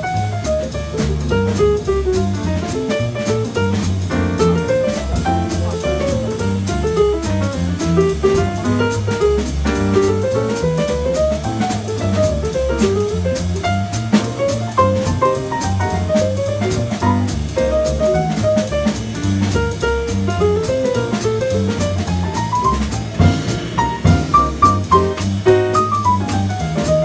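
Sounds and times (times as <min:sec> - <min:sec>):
drum kit with cymbal strokes: 0:00.0 - 0:27.0
upright double bass: 0:00.0 - 0:27.0.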